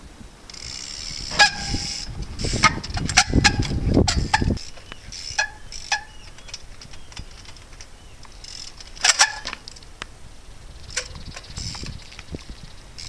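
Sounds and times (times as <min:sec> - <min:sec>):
wind rumbling on microphone: 0:00.0 - 0:09.1, 0:09.7 - 0:13.0
bike clicks and knocks: 0:00.4 - 0:10.2, 0:10.8 - 0:13.0
bicycle brakes squeaking: 0:00.5 - 0:10.0, 0:10.7 - 0:13.0.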